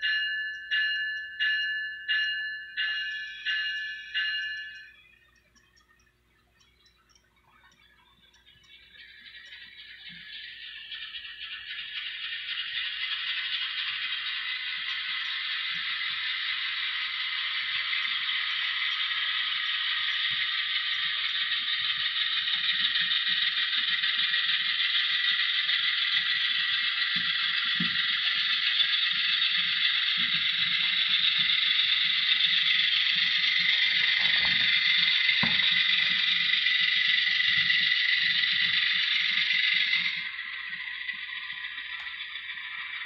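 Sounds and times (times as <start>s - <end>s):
metal wheels rolling on rail: 7.5s - 43.0s.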